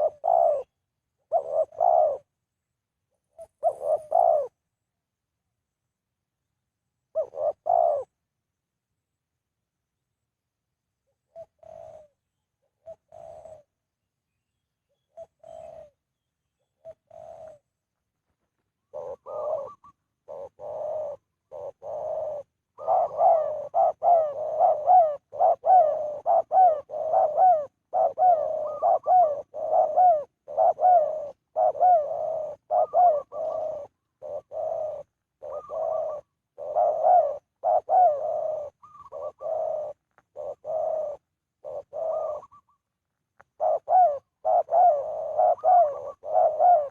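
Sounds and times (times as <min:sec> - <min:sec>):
dove cooing: 0:00.0 - 0:02.5, 0:03.1 - 0:04.6, 0:07.1 - 0:08.2, 0:11.0 - 0:13.8, 0:14.9 - 0:17.8, 0:18.5 - 0:46.9.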